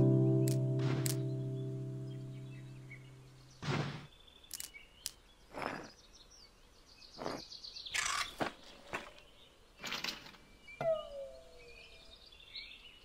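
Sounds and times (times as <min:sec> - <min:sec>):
faint bird chirps: 0:01.2 - 0:13.0.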